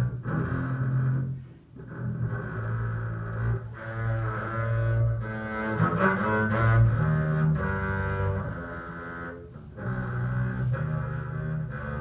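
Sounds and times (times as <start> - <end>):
bowed double bass: 0.0 - 12.0.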